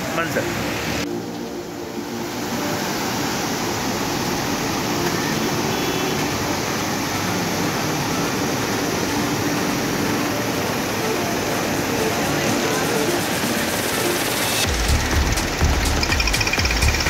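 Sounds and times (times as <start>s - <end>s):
river water rushing and churning: 0.0s - 17.0s.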